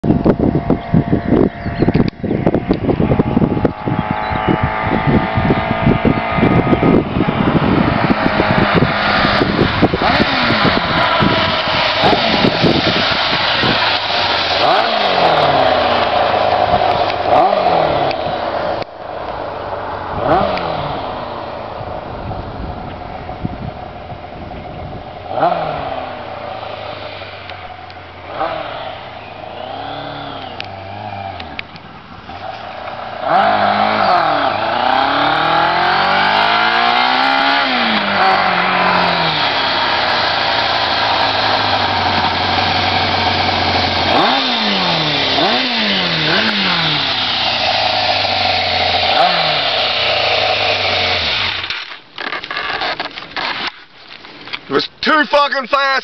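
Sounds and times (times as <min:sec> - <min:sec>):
motorcycle engine revving: 0:00.0 - 0:53.8.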